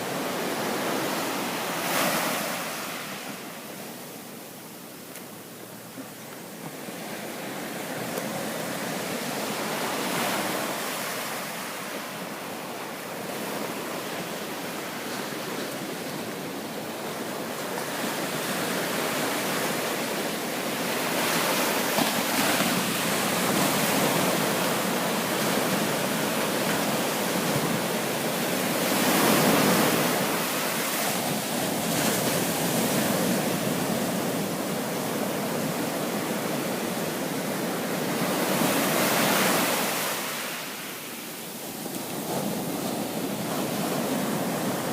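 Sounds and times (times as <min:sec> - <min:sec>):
ocean surf breaking: 0:00.0 - 0:04.1, 0:05.6 - 0:44.9.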